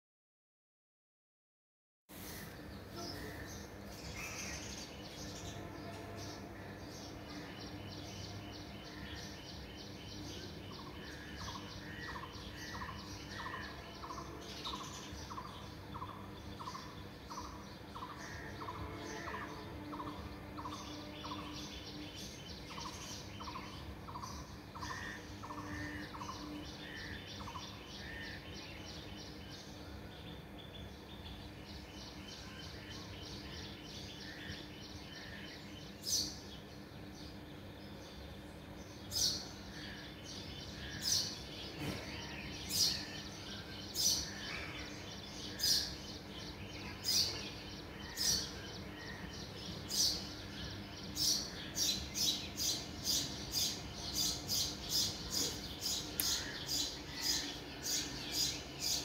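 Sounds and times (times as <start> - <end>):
faint steady hum: 2.1 - 59.0
birds chirping and singing: 2.2 - 59.0.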